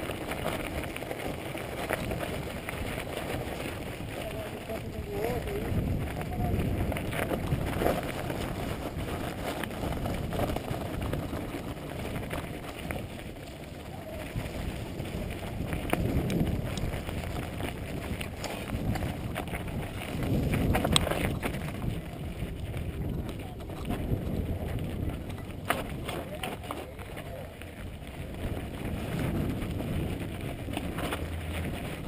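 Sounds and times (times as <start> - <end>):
bike rattles and clicks: 0.0 - 32.0
bike tyres on dirt: 0.0 - 32.0
wind rumble on microphone: 0.0 - 32.0.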